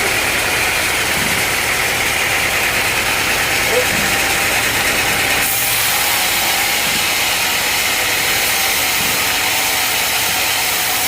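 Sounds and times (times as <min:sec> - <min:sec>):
sawmill machinery hissing: 0:00.0 - 0:11.0.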